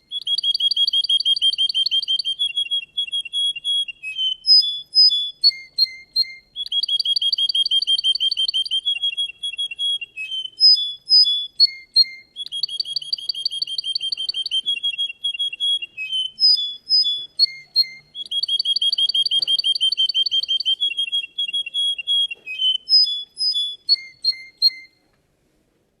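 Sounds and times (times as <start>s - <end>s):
canary singing trills: 0.0s - 25.0s
whistled bird notes: 0.0s - 25.0s.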